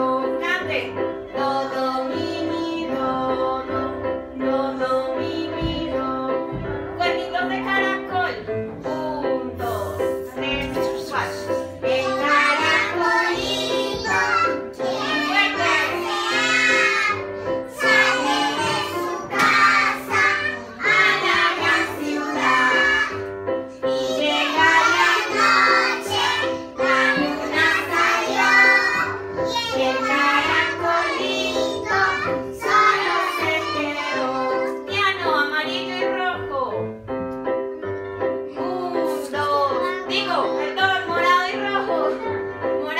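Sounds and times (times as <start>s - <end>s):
woman and children singing: 0.0s - 36.5s, 38.5s - 42.2s.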